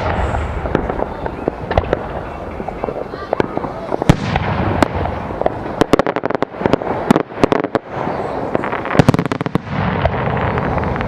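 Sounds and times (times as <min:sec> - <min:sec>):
fireworks popping and banging: 0:00.0 - 0:11.0.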